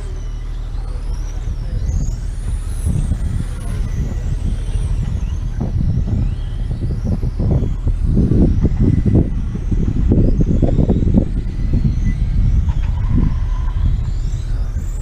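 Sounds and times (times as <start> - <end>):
heavy low rumble: 0.0 - 15.0
racing motorcycle engines whining: 0.0 - 15.0.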